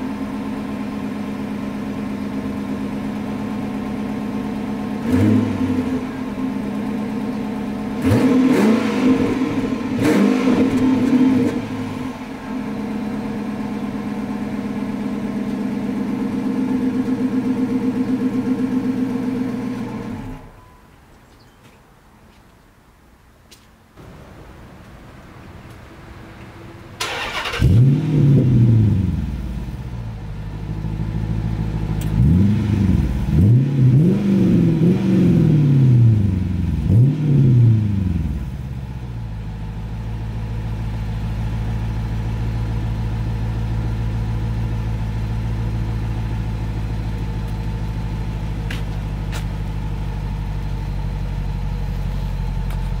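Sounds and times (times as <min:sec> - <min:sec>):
car engine revving and idling: 0:00.0 - 0:20.5, 0:27.0 - 0:53.0.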